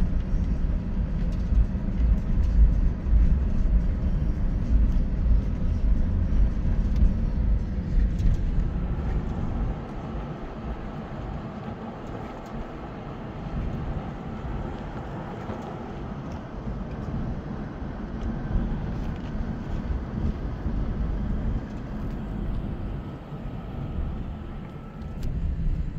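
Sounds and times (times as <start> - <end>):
car road and wind noise: 0.0 - 25.9.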